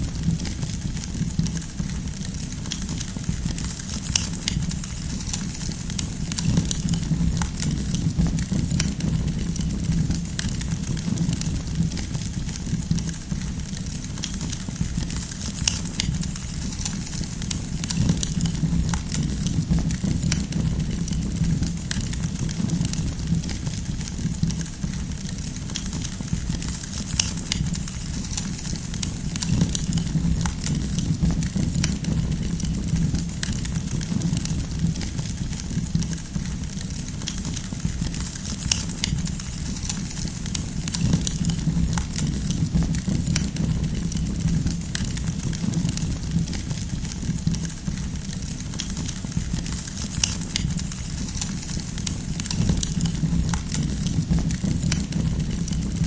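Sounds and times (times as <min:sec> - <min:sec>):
firewood crackling and popping: 0:00.0 - 0:56.0
flames rushing: 0:00.0 - 0:56.0.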